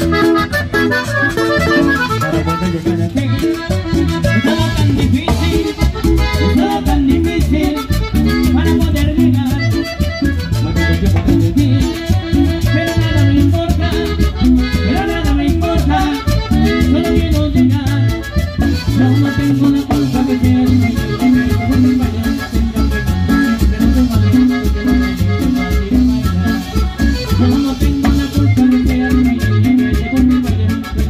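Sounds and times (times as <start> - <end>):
acoustic guitar: 0.0 - 31.0
electric bass: 0.0 - 31.0
piano accordion: 0.0 - 31.0.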